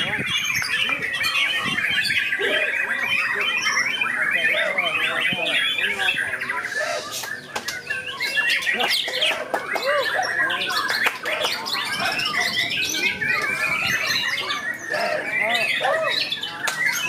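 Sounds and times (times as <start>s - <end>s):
loud whistles and trills: 0.0s - 17.0s
songbirds singing: 0.0s - 17.0s.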